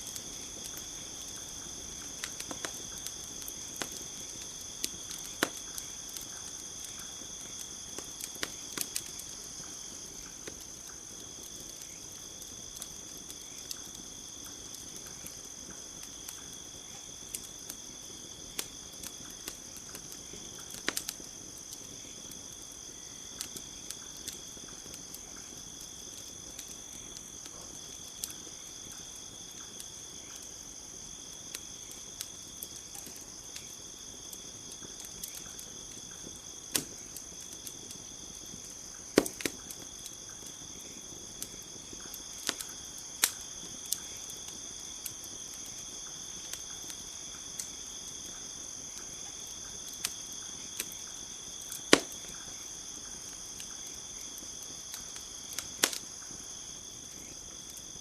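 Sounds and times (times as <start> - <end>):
campfire crackling and popping: 0.0 - 58.0
insects chirring: 0.0 - 58.0.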